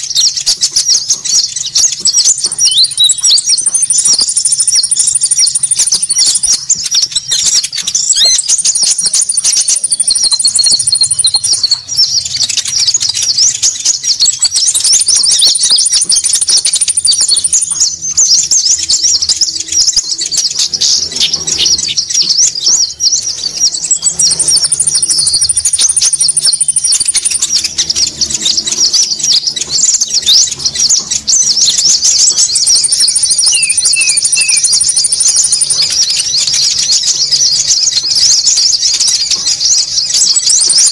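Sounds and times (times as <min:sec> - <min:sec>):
high-pitched bird trill: 0:00.0 - 0:40.9
small birds chattering: 0:00.0 - 0:40.9.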